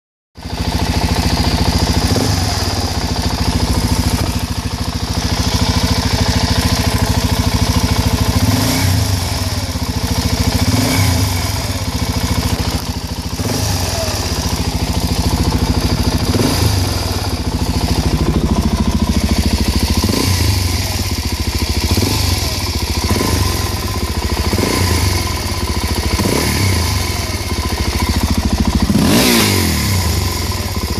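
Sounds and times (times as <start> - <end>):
motorcycle engine revving: 0.4 - 30.9.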